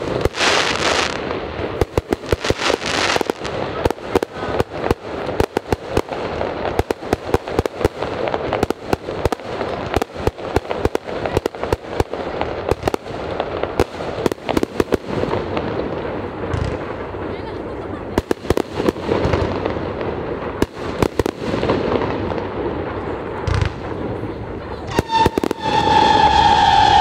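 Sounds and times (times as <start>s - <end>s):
fireworks bangs and cracks: 0.0s - 27.0s.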